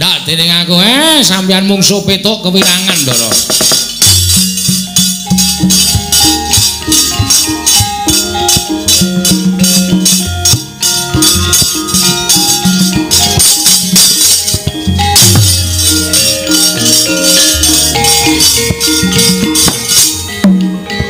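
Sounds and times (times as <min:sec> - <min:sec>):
small cymbals jingling: 0:00.8 - 0:21.0
metallophone melody: 0:02.5 - 0:21.0
drum: 0:02.6 - 0:21.0.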